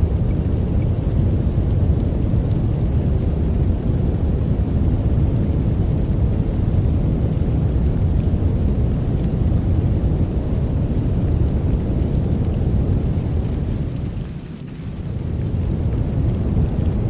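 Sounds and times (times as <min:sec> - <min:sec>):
deep rumbling brown noise: 0:00.0 - 0:17.0.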